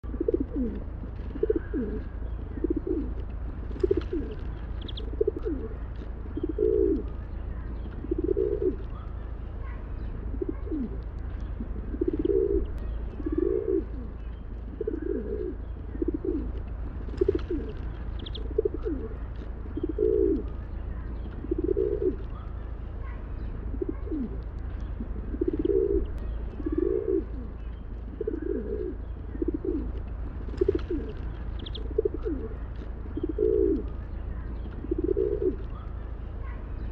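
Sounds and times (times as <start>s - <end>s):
pigeons cooing: 0.0s - 36.9s
small birds chirping: 0.0s - 36.9s.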